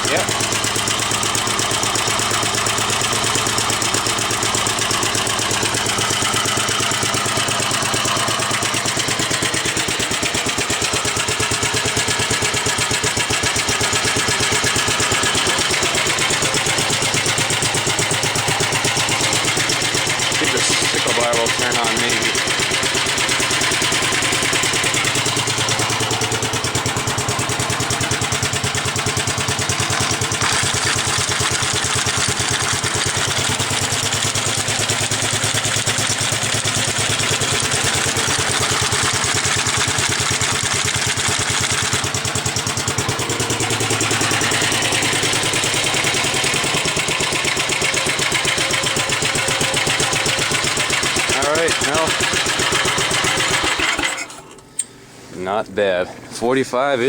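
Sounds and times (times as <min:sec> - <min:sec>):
single-cylinder engine running: 0:00.0 - 0:54.8.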